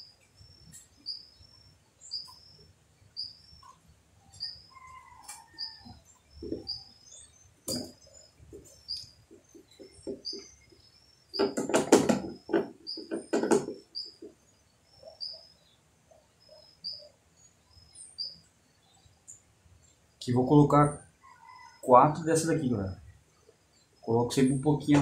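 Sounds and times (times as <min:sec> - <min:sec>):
small bird chirping: 0:00.0 - 0:20.3.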